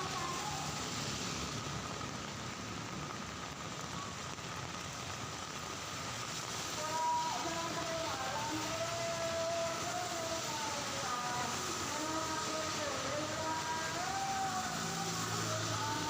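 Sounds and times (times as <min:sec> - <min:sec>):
heavy rain on street: 0:00.0 - 0:16.0
traffic on wet road: 0:00.0 - 0:16.0.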